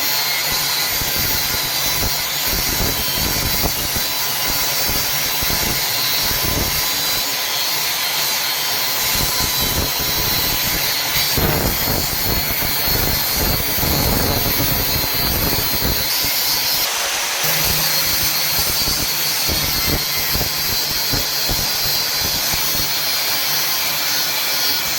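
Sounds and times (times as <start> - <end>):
power saw cutting metal: 0.0 - 24.9.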